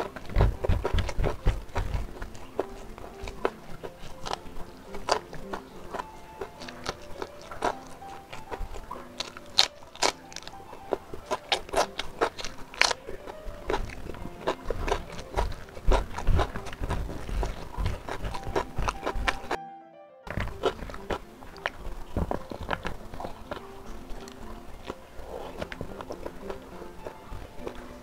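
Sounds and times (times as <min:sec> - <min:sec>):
crunching raw vegetables: 0:00.0 - 0:19.6, 0:20.3 - 0:28.0
wet chewing and smacking: 0:00.0 - 0:19.6, 0:20.3 - 0:28.0
soft background music: 0:00.0 - 0:28.0.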